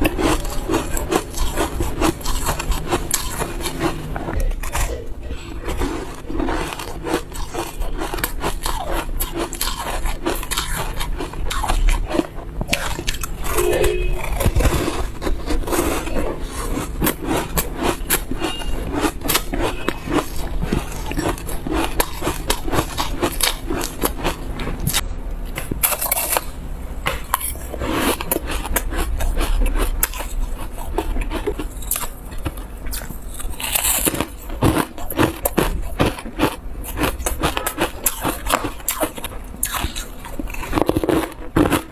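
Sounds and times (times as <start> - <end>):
chewing ice crunching: 0.0 - 41.9.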